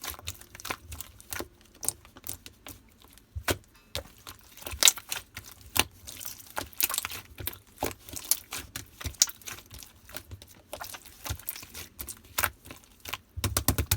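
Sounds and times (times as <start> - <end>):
hands squishing slime: 0.0 - 13.9.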